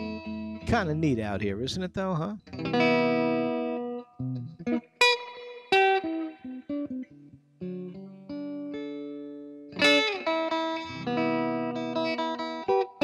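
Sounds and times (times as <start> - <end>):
plucked guitar notes: 0.0 - 13.0.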